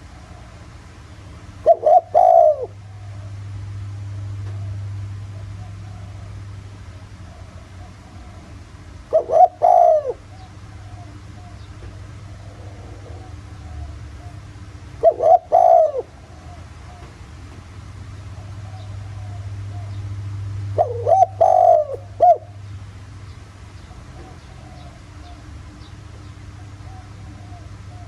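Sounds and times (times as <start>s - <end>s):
dove cooing: 0.0s - 17.6s, 18.2s - 22.7s, 23.8s - 25.6s, 26.4s - 28.0s
steady low hum: 0.0s - 28.0s.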